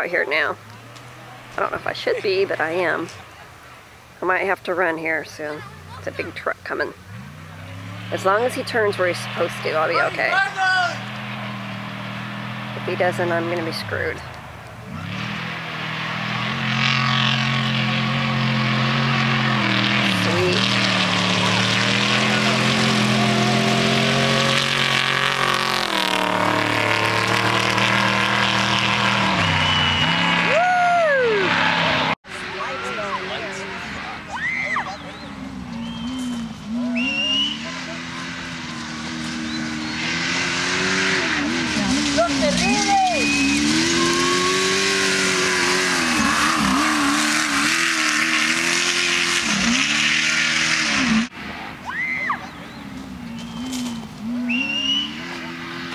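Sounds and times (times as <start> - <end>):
race truck engine passing by: 5.4 - 55.9.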